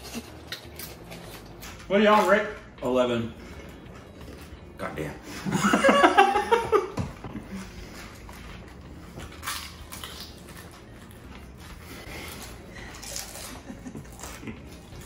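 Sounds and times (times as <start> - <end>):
people chewing crunchy food: 0.0 - 15.0.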